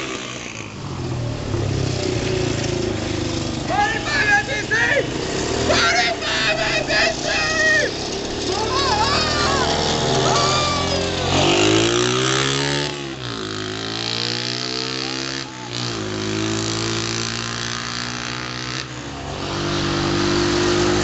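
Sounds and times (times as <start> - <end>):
scooter engine revving: 0.0 - 21.0.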